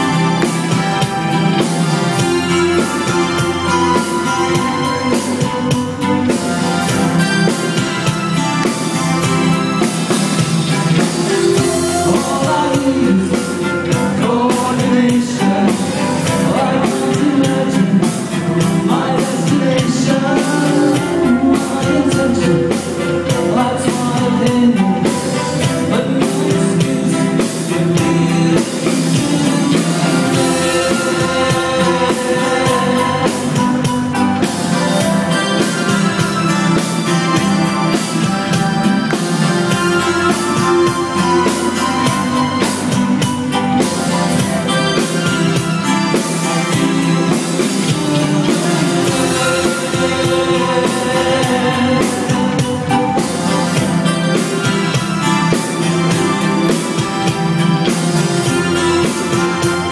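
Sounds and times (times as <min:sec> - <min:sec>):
drums: 0:00.0 - 0:59.9
keyboards: 0:00.0 - 0:59.9
man singing lead: 0:11.0 - 0:59.9.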